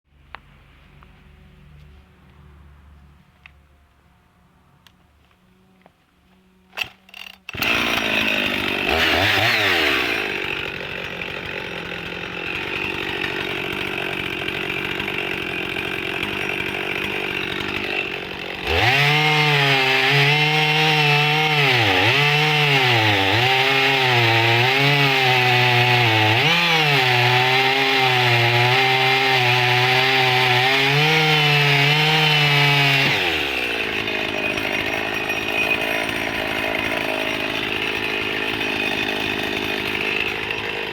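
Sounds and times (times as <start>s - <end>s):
chainsaw cutting into log: 6.8s - 40.9s
chainsaw revving and idling: 6.8s - 40.9s.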